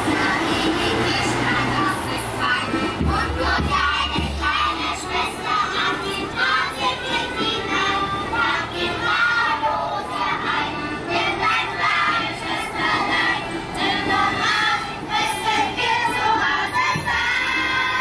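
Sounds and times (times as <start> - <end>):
children singing and calling out: 0.0 - 18.0
music: 0.0 - 18.0.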